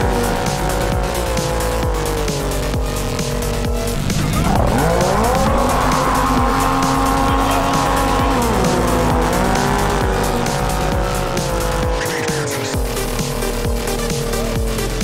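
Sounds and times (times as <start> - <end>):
jet ski engines at full throttle: 0.0 - 15.0.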